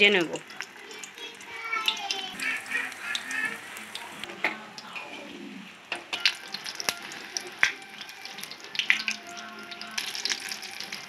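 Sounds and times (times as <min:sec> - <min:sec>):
fritters sizzling in hot oil: 0:00.0 - 0:05.2, 0:05.9 - 0:11.0.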